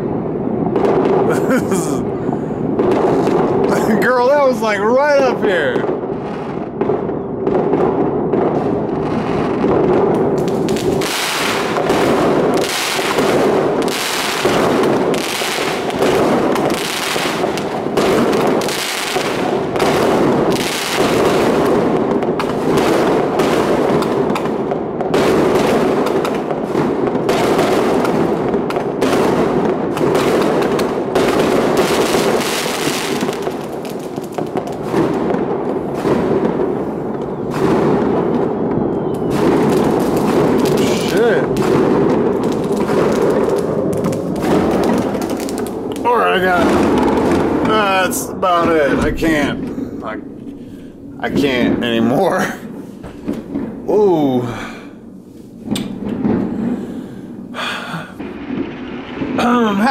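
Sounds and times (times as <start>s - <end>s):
aerial firework shells bursting: 0.0s - 53.9s, 54.9s - 57.6s, 58.2s - 59.4s
firecrackers crackling: 0.0s - 59.9s.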